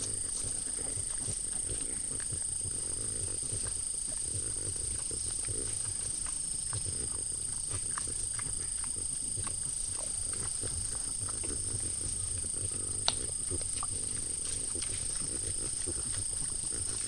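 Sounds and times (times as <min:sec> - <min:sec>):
peccary grunts and snuffles: 0:00.0 - 0:17.0.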